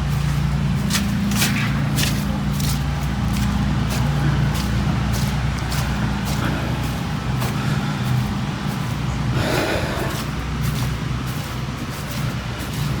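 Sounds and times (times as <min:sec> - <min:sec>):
footsteps: 0:00.0 - 0:13.0
low mechanical hum: 0:00.0 - 0:13.0.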